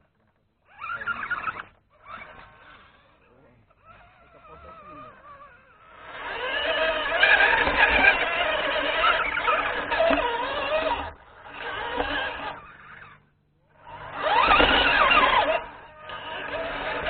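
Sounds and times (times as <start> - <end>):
electric motor whining: 0.6 - 17.0.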